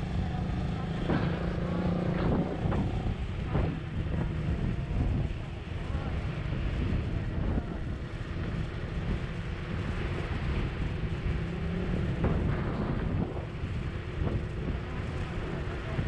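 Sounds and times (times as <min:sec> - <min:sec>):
fluttering low rumble: 0:00.0 - 0:16.0
wind buffeting microphone: 0:00.0 - 0:16.0.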